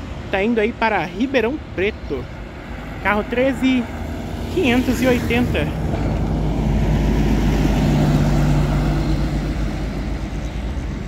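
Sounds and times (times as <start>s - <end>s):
coach diesel engine running: 0.0s - 11.0s.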